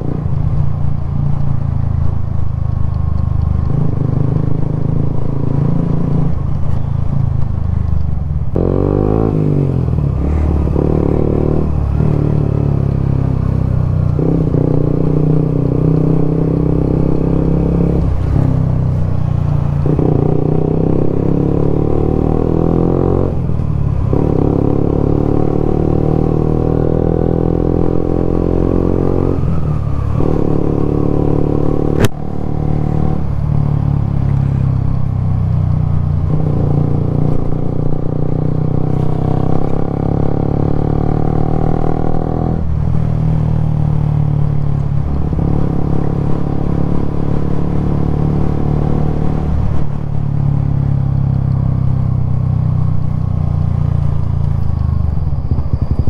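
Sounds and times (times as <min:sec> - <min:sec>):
motorcycle engine revving: 0:03.4 - 0:06.8, 0:08.5 - 0:56.0.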